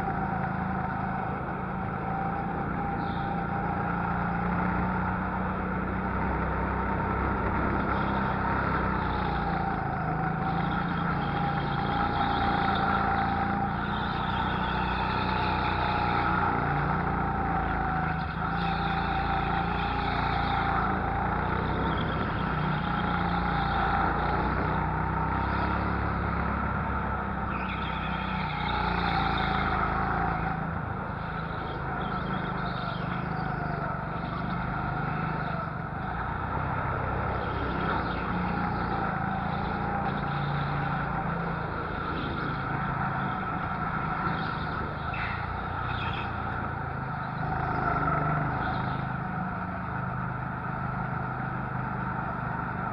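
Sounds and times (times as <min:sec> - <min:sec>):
go-kart engine revving: 0:00.0 - 0:52.9.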